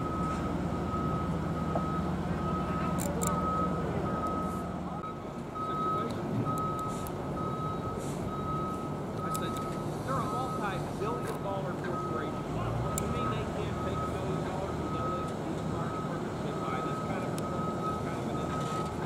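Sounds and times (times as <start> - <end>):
low engine rumble: 0.0 - 19.0
reversing alarm beeping: 0.0 - 19.0.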